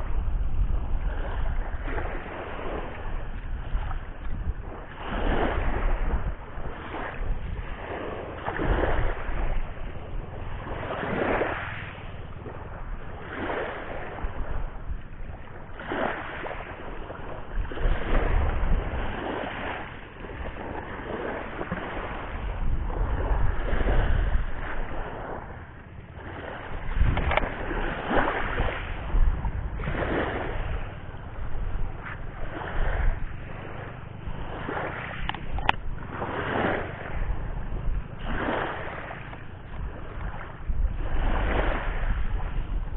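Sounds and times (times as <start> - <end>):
surf washing on a beach: 0.0 - 42.9
wind buffeting the microphone: 0.0 - 42.9.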